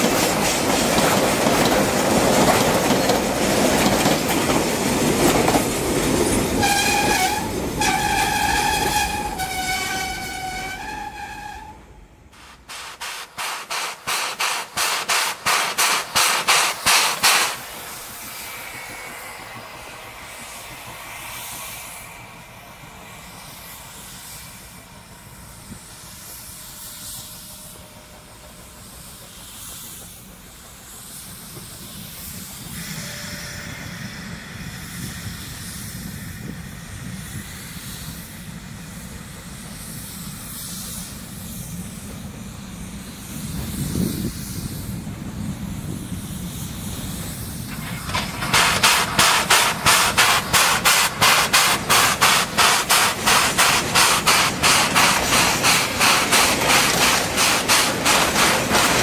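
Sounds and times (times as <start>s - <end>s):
steam hissing: 0.0s - 11.6s, 12.3s - 59.0s
steam locomotive exhaust beats: 0.0s - 59.0s.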